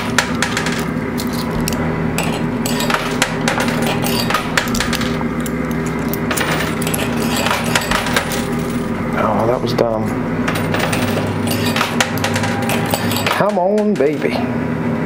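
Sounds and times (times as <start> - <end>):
coins clinking and clattering: 0.0 - 9.6, 10.5 - 14.3
sharp clicks of dropping coins: 0.0 - 9.6, 10.5 - 14.3
steady machine hum: 0.0 - 15.0.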